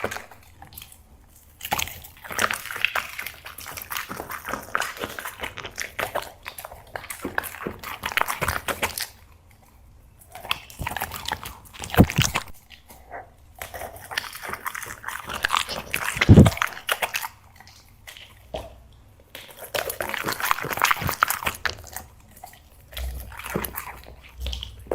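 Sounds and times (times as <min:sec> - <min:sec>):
dog crunching dry treats: 0:00.0 - 0:24.9.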